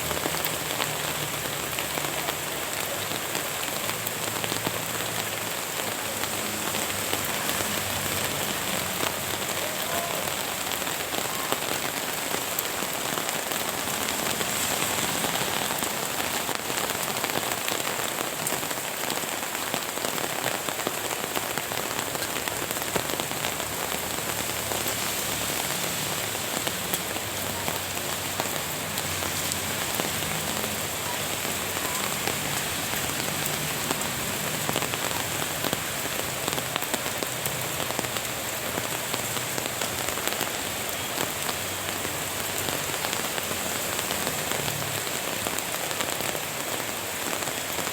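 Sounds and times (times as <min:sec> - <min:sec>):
raindrops ticking close by: 0:00.0 - 0:47.9
steady rain falling: 0:00.0 - 0:47.9.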